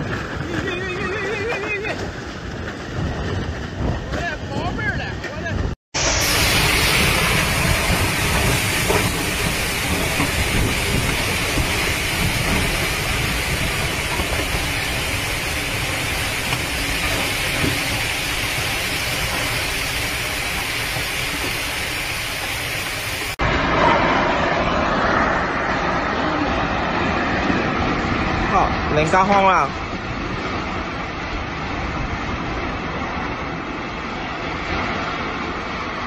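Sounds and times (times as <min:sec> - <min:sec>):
strong wind and driving rain: 0:00.0 - 0:36.0.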